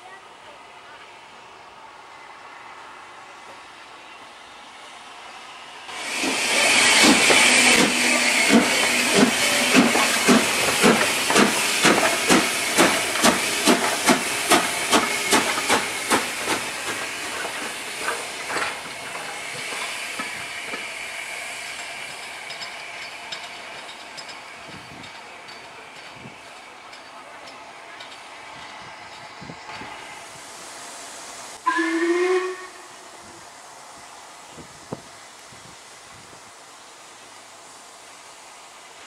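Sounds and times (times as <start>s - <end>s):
steam hiss: 0.8s - 39.0s
steam locomotive exhaust beats: 5.9s - 39.0s.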